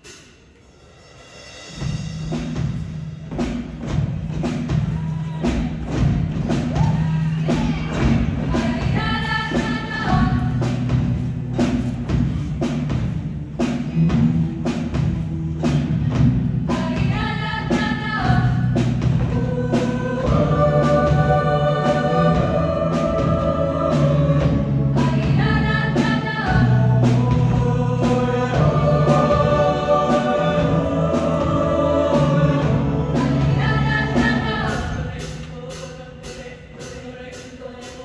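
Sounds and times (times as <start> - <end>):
music with steady drum beat: 0.0 - 38.0
choir-like voices: 4.4 - 12.7, 13.9 - 38.0.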